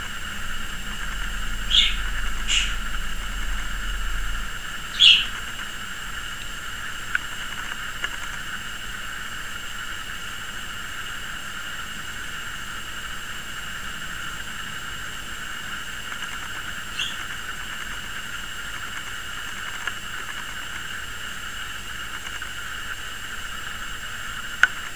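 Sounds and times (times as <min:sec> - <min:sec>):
steady electronic hiss: 0:00.0 - 0:24.9.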